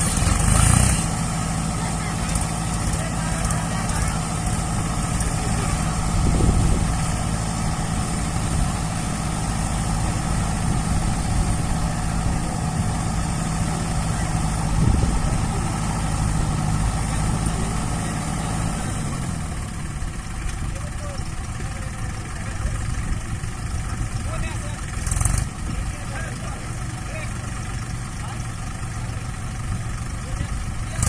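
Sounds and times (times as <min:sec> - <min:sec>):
heavy diesel engine idling: 0:00.0 - 0:31.0.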